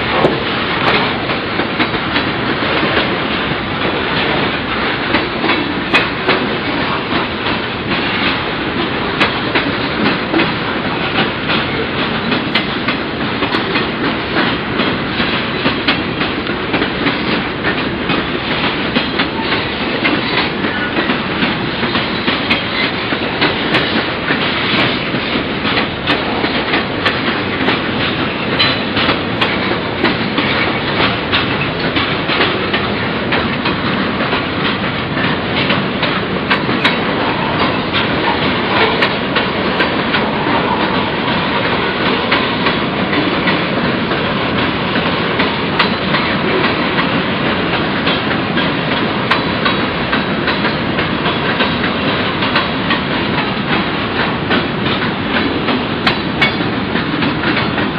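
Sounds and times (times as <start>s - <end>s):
clickety-clack of rail joints: 0.0s - 57.9s
train wheels rumbling on rail: 0.0s - 57.9s.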